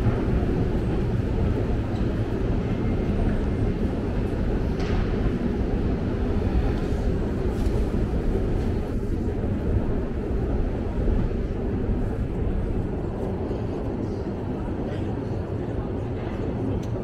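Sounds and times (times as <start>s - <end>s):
escalator low rumble: 0.0s - 17.0s.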